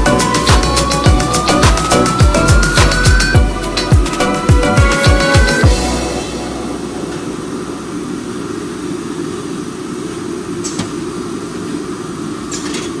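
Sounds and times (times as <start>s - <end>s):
machine humming: 0.0s - 12.4s.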